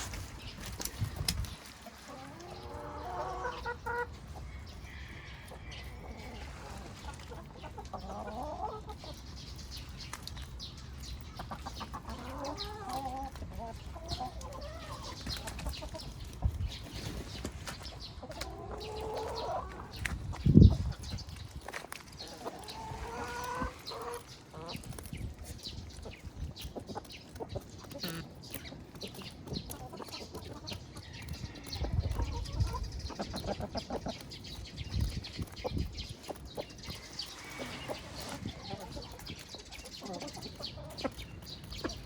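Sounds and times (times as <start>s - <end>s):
hens clucking: 0.0s - 42.0s.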